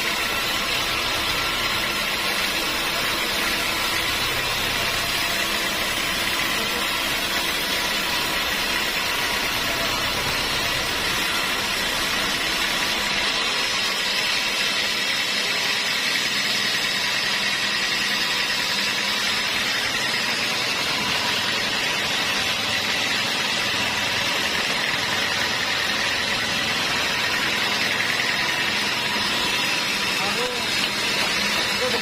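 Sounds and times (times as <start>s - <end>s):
sawmill machinery drone: 0.0s - 32.0s.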